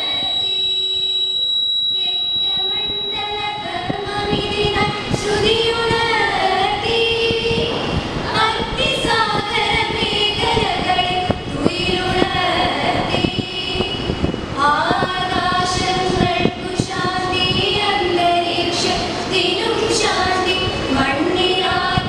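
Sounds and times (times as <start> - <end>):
girls singing into microphones: 2.0 - 22.0.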